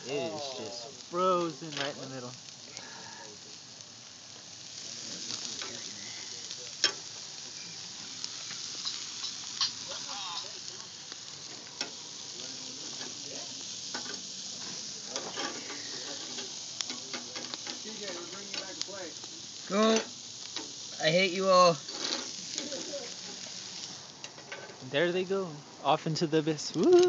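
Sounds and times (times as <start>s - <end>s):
patties sizzling on a grill: 0.0s - 27.0s.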